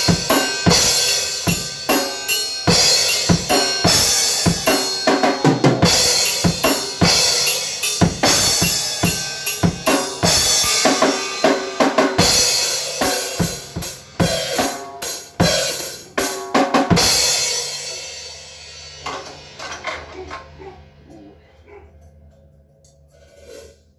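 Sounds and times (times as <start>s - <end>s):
drum kit fills: 0.0s - 21.3s.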